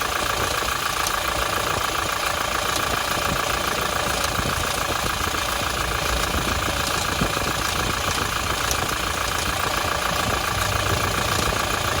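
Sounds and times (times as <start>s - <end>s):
diesel engine idling: 0.0s - 12.0s
fast even engine rattle: 0.0s - 12.0s.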